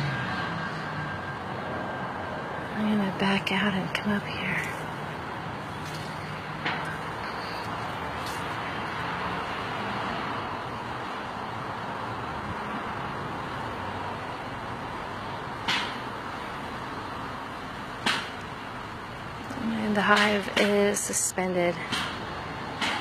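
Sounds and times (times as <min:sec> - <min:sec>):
road traffic hiss: 0:00.0 - 0:23.0.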